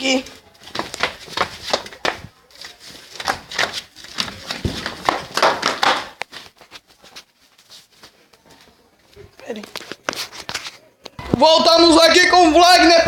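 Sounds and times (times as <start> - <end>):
footsteps tapping: 0.0 - 11.2.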